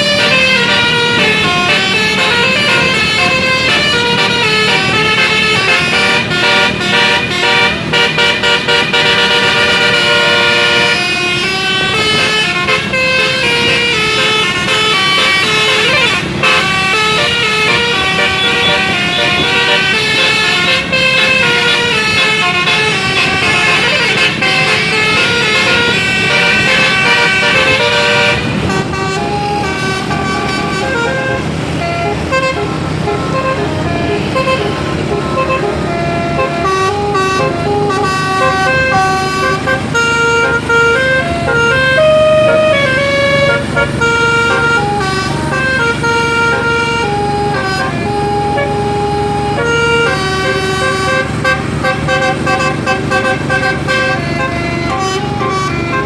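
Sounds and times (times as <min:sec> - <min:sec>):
bus engine running: 0:00.0 - 0:56.0
bus horn melody: 0:00.0 - 0:56.0.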